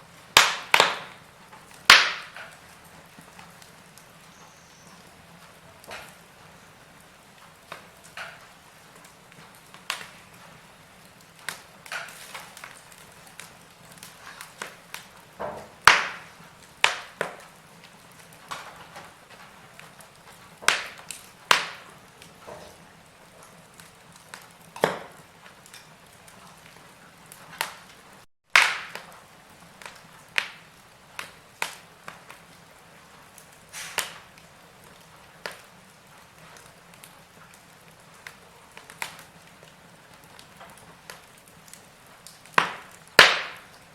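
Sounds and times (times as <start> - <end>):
faint steady hiss: 0.0 - 43.9
logs crackling and popping in fire: 0.0 - 43.9.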